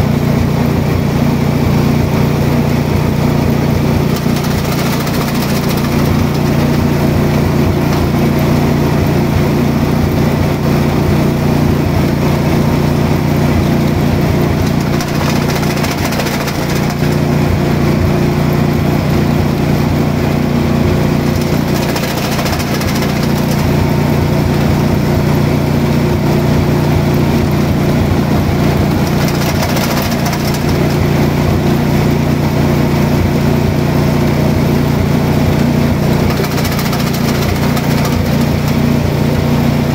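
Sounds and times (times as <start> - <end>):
machine droning: 0.0 - 39.9.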